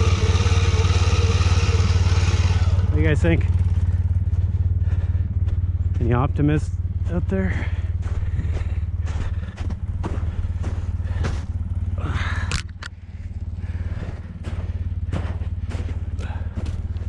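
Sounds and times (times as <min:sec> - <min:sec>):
atv engine idling: 0:00.0 - 0:17.0
footsteps crunching in snow: 0:00.1 - 0:12.0, 0:13.2 - 0:17.0.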